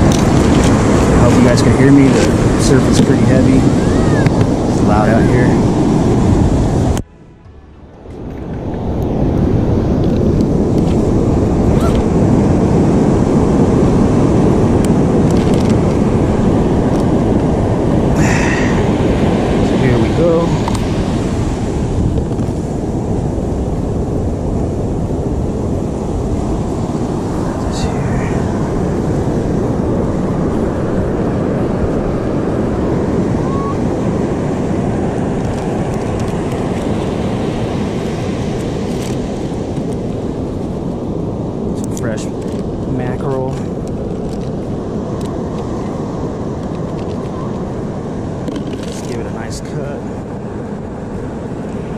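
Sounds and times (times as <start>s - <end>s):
heavy ocean surf: 0.0s - 51.9s
wind on microphone: 0.0s - 51.9s.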